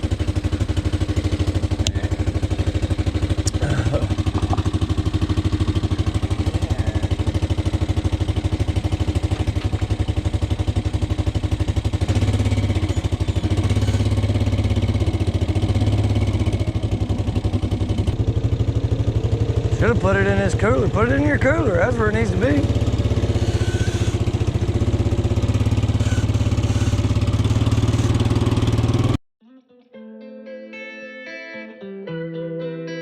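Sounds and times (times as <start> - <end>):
off-road vehicle engine running: 0.0 - 29.2.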